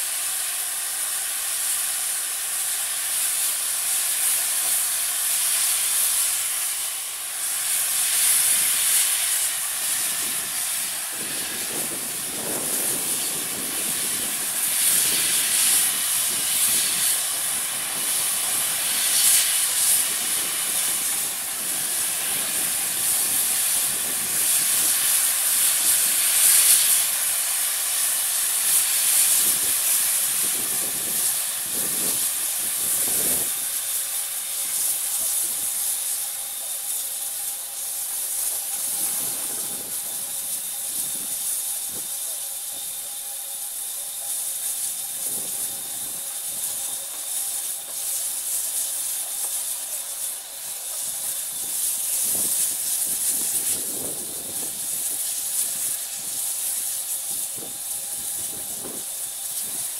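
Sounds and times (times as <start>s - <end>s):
steam locomotive blowing off steam: 0.0s - 59.9s.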